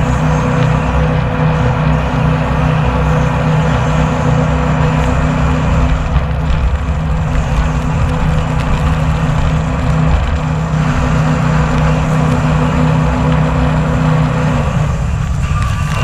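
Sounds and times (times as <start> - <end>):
jet boat engine humming: 0.0 - 16.0
rushing wind and water: 0.0 - 16.0.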